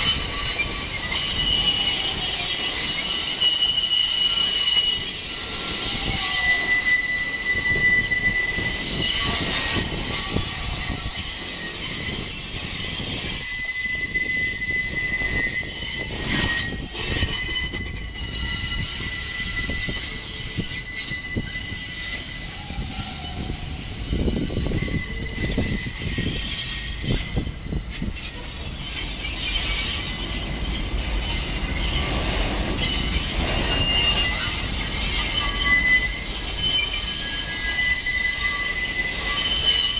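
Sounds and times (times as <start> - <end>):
train wheels squealing: 0.0 - 39.9
wheels rumbling on rails: 4.3 - 39.9.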